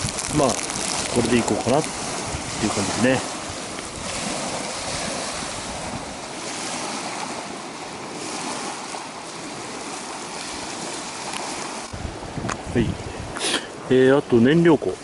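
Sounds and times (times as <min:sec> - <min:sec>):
strong wind: 0:00.0 - 0:15.0
waves washing on shore: 0:00.0 - 0:15.0.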